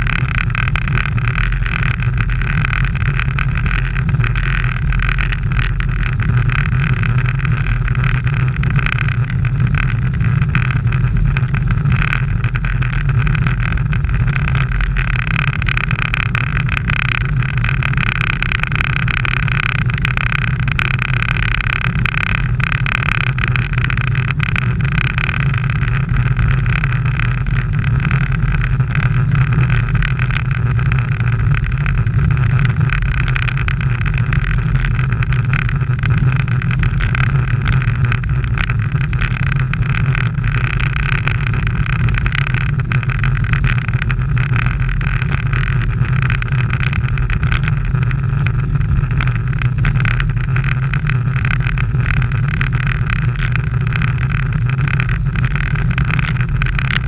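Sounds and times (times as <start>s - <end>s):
wind and tyre rumble: 0.0s - 57.0s.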